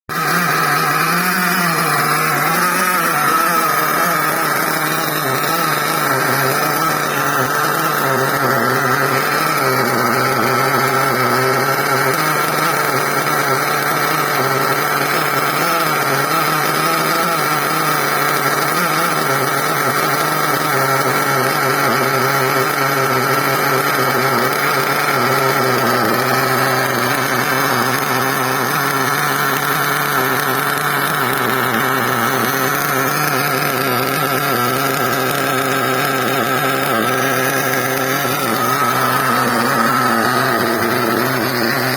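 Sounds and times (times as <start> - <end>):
small nitro engine idling: 0.0 - 41.9.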